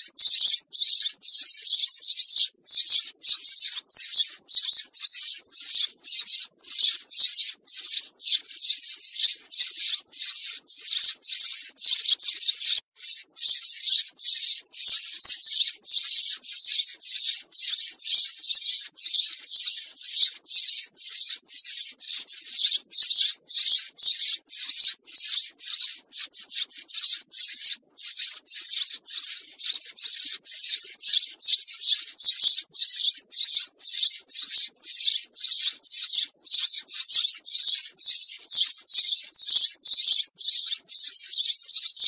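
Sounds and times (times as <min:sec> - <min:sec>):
sparrow chirping: 0:00.0 - 0:42.0.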